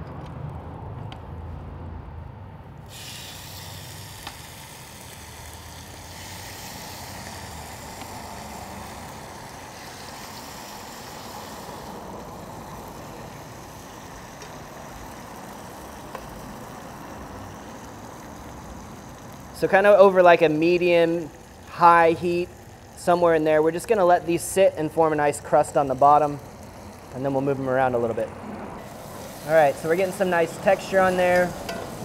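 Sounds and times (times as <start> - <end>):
meat sizzling in fat: 2.9 - 28.0, 28.8 - 32.0.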